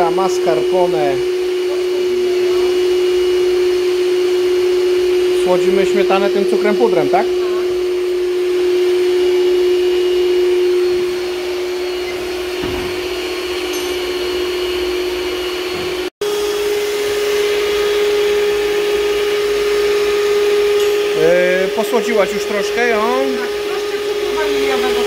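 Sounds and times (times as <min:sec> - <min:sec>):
electric mixer motor whine: 0:00.0 - 0:25.0.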